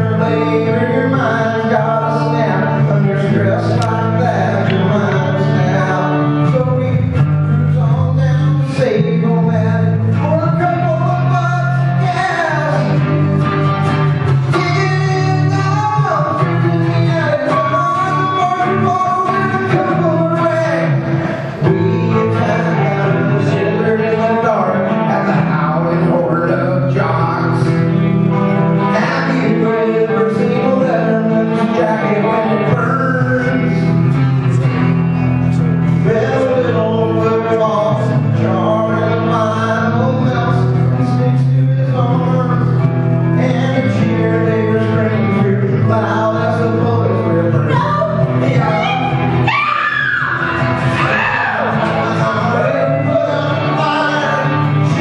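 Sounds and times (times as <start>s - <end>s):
electric guitar: 0.0s - 55.0s
man singing: 0.0s - 55.0s.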